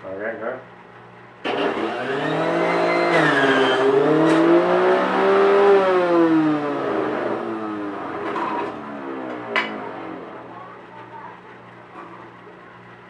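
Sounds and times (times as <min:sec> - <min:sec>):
electric blender running: 0:01.4 - 0:12.6.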